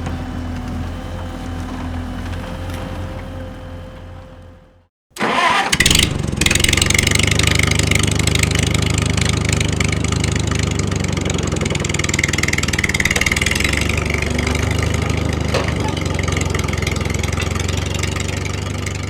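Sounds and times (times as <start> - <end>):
engine starting and running: 0.0 - 19.0.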